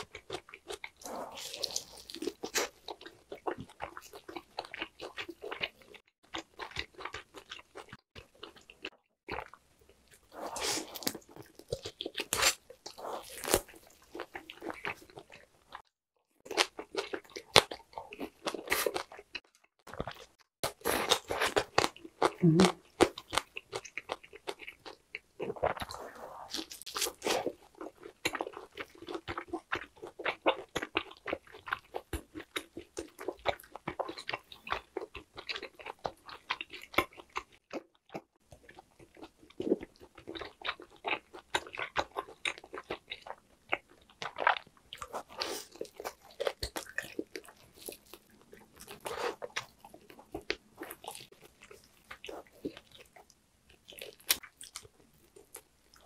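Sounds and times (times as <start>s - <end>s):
biting and chewing meat: 0.0s - 56.0s.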